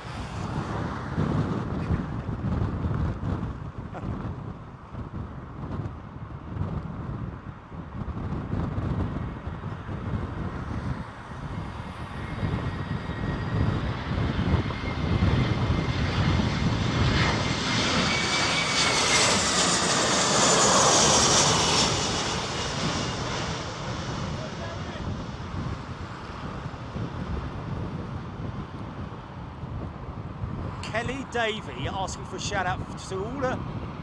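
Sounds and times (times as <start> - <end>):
jet airliner engine whine: 0.0 - 34.0
wind rumble on microphone: 0.0 - 34.0.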